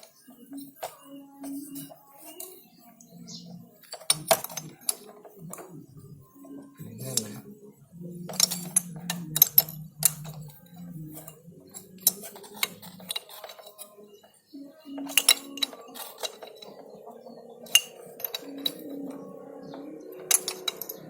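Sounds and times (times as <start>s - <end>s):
metal tools clinking: 0.0s - 6.1s, 8.2s - 21.0s.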